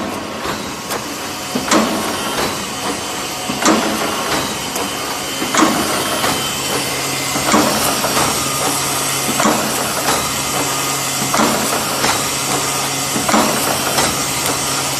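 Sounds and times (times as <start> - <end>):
machine hum and hiss: 0.0 - 14.9
welding machine strokes: 0.1 - 14.9.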